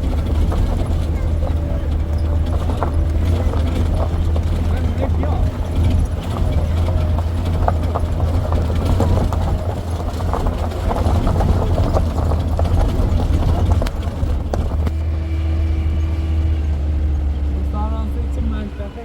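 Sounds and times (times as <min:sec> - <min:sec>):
clattering knocks: 0:00.0 - 0:16.2
motor vehicle engine droning: 0:00.0 - 0:19.0.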